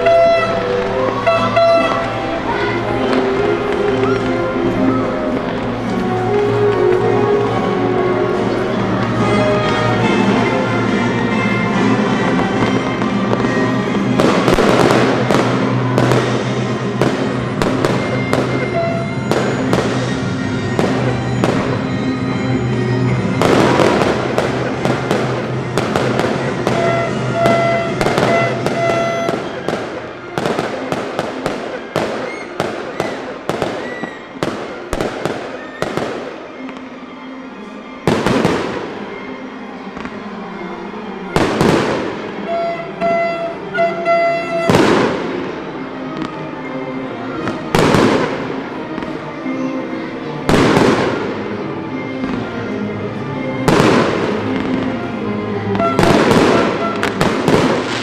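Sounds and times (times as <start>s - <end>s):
fireworks bangs: 0.0s - 10.5s, 11.3s - 36.9s, 38.0s - 39.3s, 41.3s - 46.4s, 47.4s - 49.2s, 50.5s - 51.6s, 53.6s - 55.0s, 55.6s - 58.0s
music: 0.0s - 58.0s.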